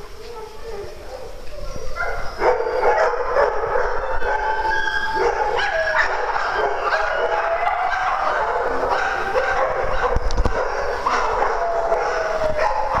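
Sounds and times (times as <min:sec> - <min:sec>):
dogs barking and whining: 0:00.0 - 0:13.0.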